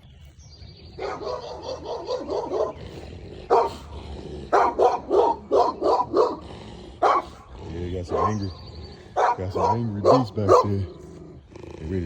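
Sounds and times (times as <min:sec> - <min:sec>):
dogs barking angrily: 0:00.8 - 0:12.0.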